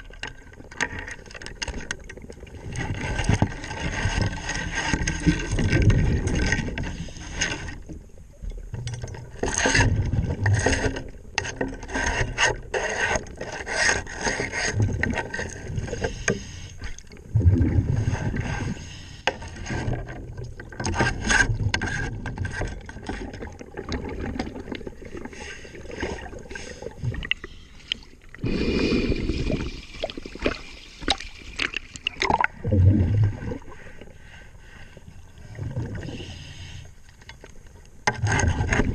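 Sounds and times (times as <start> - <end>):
brush scraping hull underwater: 0.0 - 38.9.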